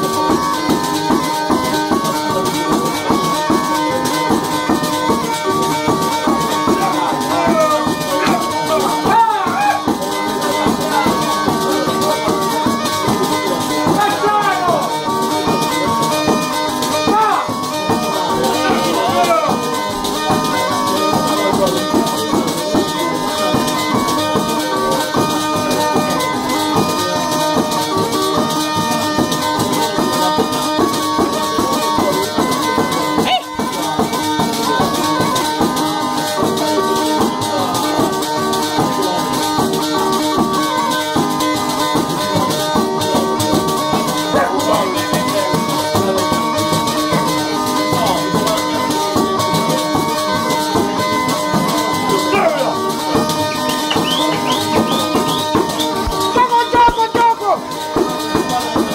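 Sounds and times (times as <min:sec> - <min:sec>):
jingling percussion: 0:00.0 - 0:58.9
melody instrument playing quick runs: 0:00.0 - 0:58.9.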